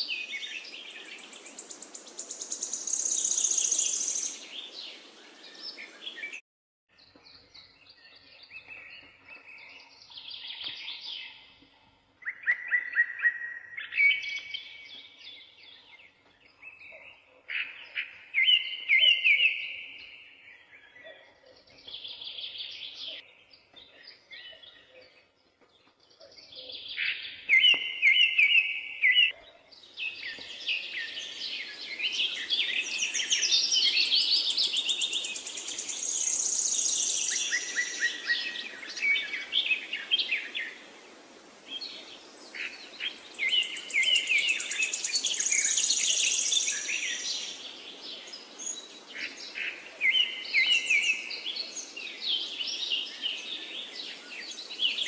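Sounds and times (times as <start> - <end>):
small birds singing: 0.0 - 55.0.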